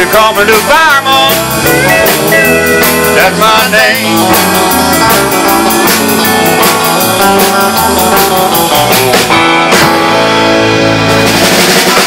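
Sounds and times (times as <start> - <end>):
bass guitar: 0.0 - 12.0
drum kit beat: 0.0 - 12.0
electric guitars: 0.0 - 12.0.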